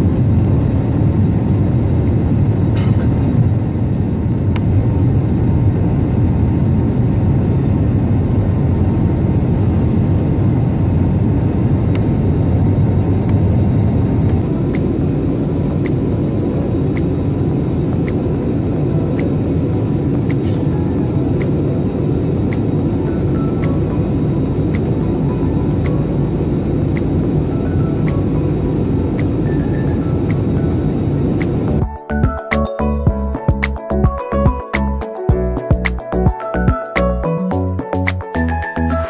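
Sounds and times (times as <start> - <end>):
jet engine cabin rumble: 0.0 - 31.9.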